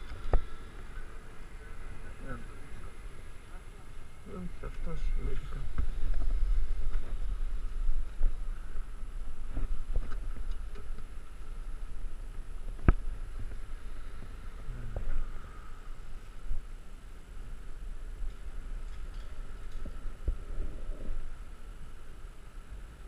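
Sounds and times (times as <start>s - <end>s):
wind buffeting microphone: 0.0s - 22.2s.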